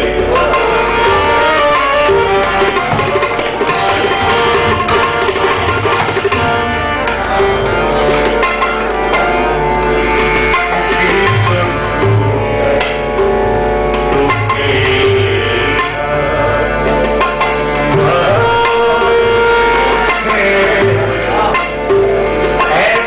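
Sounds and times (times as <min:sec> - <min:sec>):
harmonium melody: 0:00.0 - 0:23.0
tabla drumming: 0:00.0 - 0:23.0.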